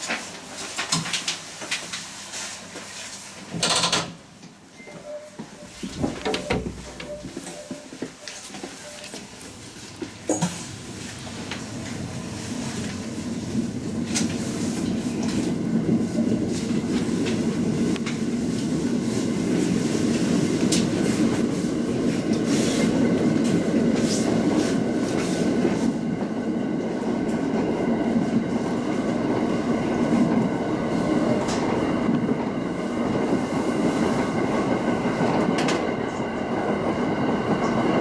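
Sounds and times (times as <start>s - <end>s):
train wheels rumbling on rail: 5.4s - 38.0s.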